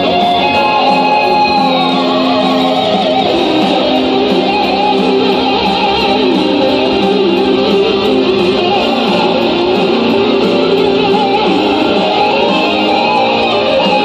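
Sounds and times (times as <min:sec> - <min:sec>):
electric guitar lead melody: 0:00.0 - 0:14.0.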